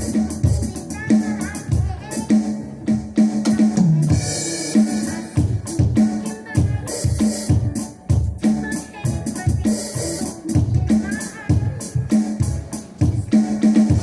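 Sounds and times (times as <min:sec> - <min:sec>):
band music with drum beat: 0:00.0 - 0:14.0.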